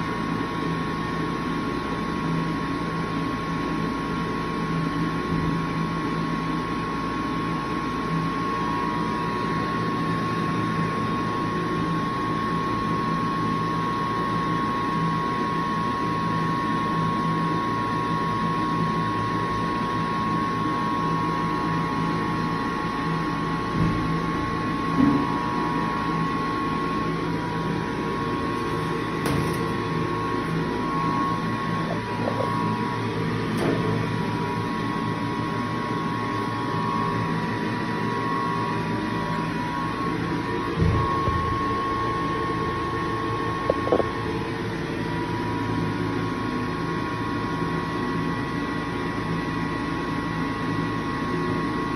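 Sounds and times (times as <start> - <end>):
electric hand dryer running: 8.0 - 51.9.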